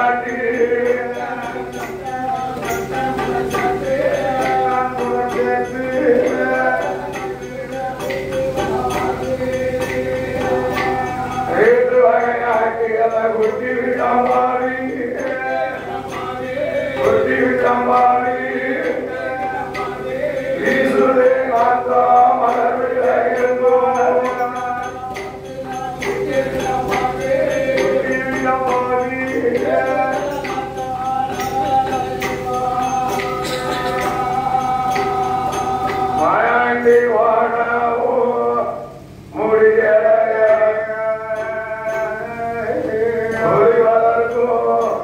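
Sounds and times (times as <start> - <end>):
sharp percussion taps: 0.0 - 37.0
sustained drone: 0.0 - 39.8
men singing chant-like song: 0.0 - 45.0.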